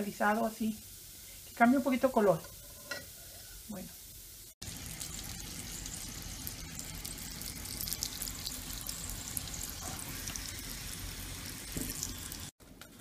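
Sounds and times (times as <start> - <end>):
tortilla sizzling in frying pan: 0.0 - 13.0.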